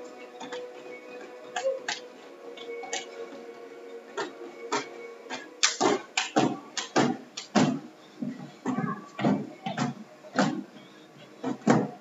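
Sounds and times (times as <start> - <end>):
faint workout music: 0.0 - 12.0.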